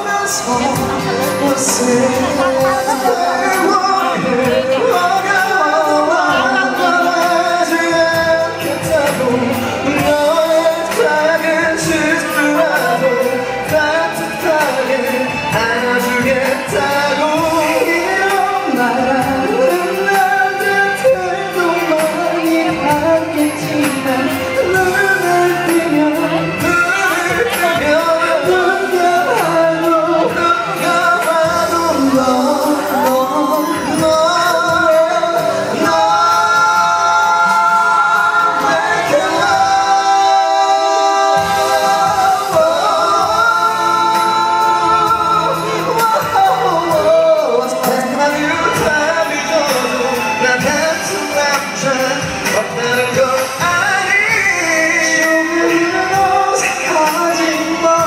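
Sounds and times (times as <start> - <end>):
instrumental backing: 0.0 - 58.0
men singing pop song live: 0.0 - 58.0.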